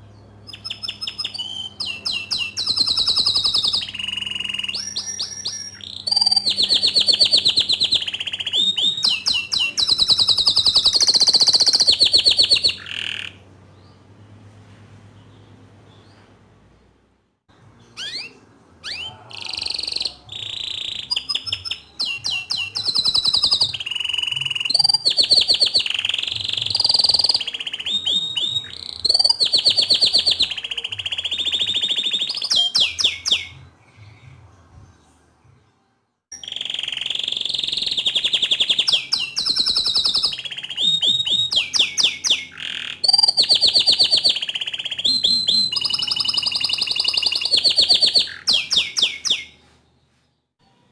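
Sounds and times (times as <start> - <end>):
canary singing trills: 0.0 - 14.2, 17.5 - 34.4, 36.3 - 49.7.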